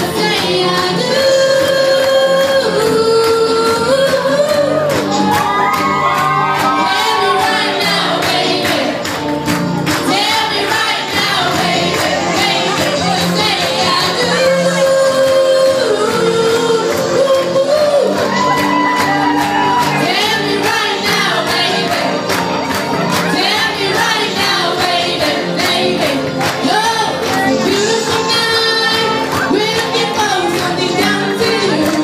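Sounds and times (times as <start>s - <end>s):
woman singing into a microphone: 0.0s - 5.4s, 6.6s - 9.0s, 10.1s - 22.2s, 23.3s - 32.0s
crowd voices: 0.0s - 32.0s.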